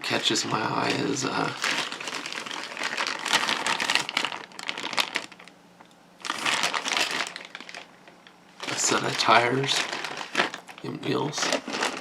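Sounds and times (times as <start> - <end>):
plastic packaging crinkling: 0.1 - 5.6, 6.2 - 12.0.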